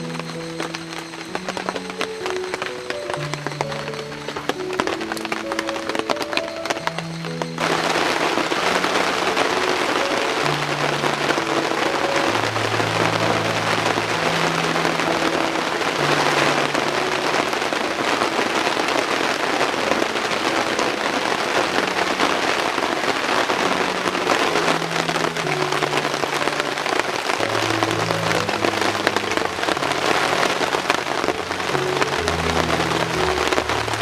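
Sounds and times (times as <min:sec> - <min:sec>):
rain falling: 0:00.0 - 0:34.0
soft low background music: 0:00.0 - 0:34.0.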